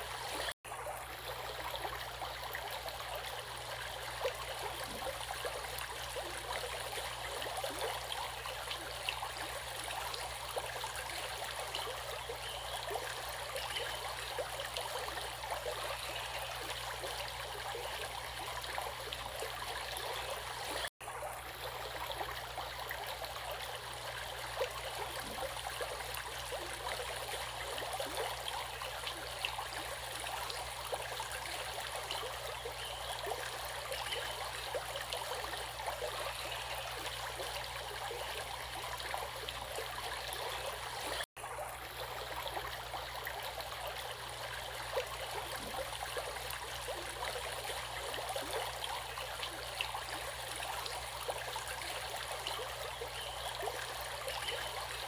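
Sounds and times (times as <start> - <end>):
water flowing in a stream: 0.0 - 55.0.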